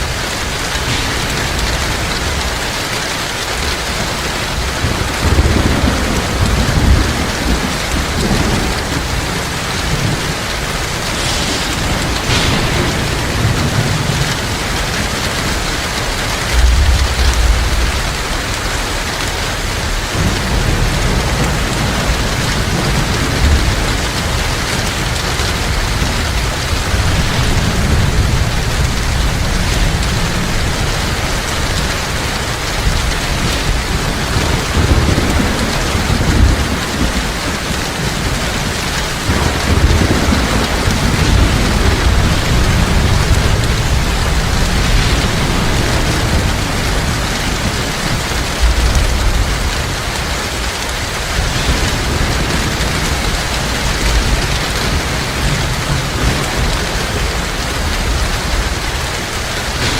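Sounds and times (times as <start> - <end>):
heavy rain: 0.0 - 59.9
low rolls of thunder: 0.0 - 59.9.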